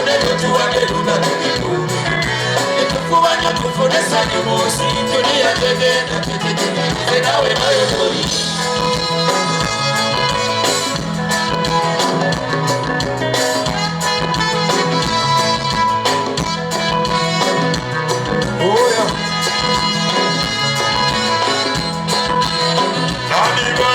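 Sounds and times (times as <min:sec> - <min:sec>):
drums: 0:00.0 - 0:23.9
guitar: 0:00.0 - 0:23.9.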